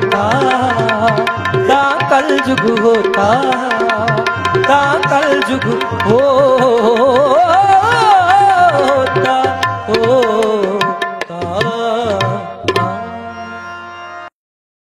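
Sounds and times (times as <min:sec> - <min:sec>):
tabla strokes: 0:00.0 - 0:13.5.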